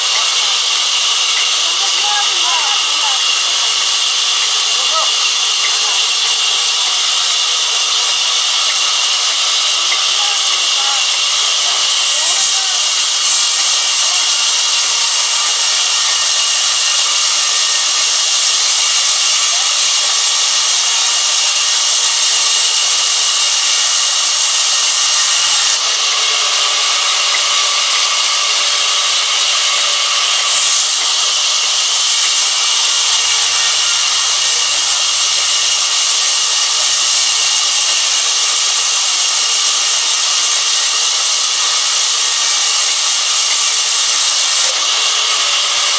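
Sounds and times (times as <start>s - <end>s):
band saw cutting wood: 0.0s - 45.9s.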